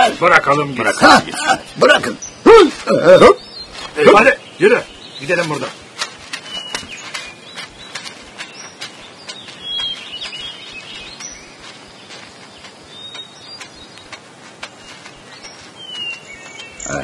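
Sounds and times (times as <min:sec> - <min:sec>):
birds chirping whistled notes: 0:00.0 - 0:17.0.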